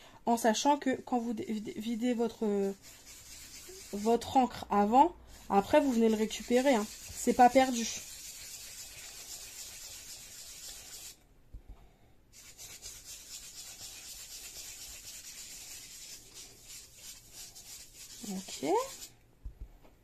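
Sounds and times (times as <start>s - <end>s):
foam tool rubbing on stencil: 0.6s - 4.6s, 5.3s - 11.2s, 12.3s - 19.1s.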